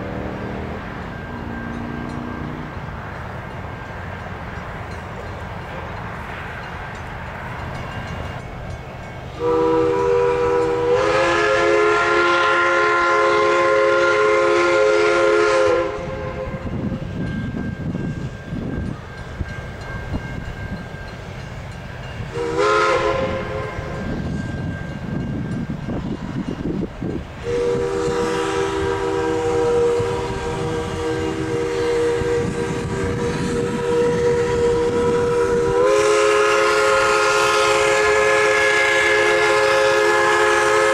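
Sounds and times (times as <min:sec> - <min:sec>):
train rumbling past: 0:00.0 - 0:40.9
train chime whistle: 0:00.1 - 0:02.7, 0:07.6 - 0:26.8, 0:27.4 - 0:40.9.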